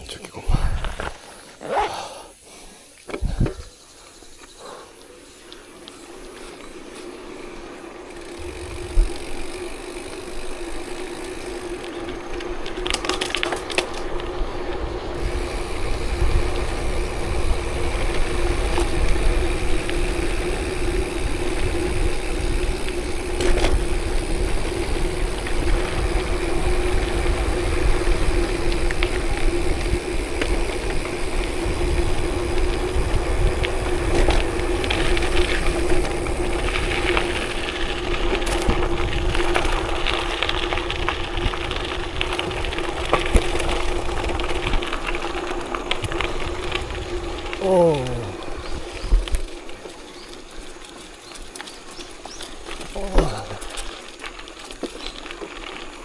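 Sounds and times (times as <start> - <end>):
tyres rolling over gravel: 5.0 - 56.0.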